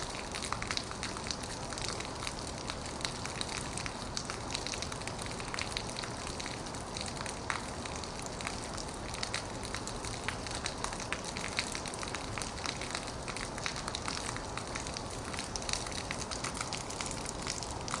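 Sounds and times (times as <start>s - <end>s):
heavy rain on metal roof: 0.0s - 18.0s.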